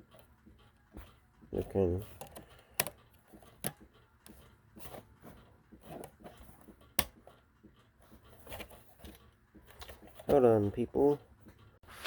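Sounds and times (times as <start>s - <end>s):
handling rustling: 0.0s - 12.0s.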